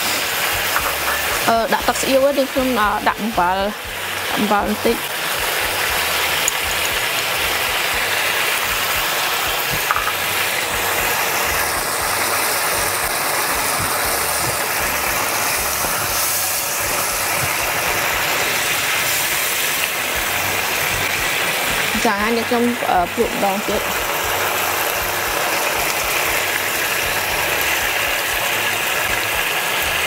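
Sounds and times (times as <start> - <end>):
sauce sizzling in a wok: 0.0 - 30.0.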